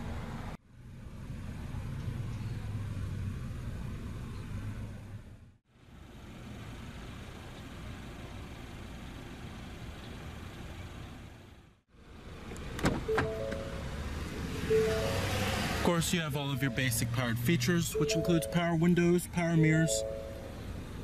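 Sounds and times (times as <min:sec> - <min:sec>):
outdoor background rumble: 0:00.0 - 0:21.0
vehicle engine idling: 0:00.1 - 0:21.0.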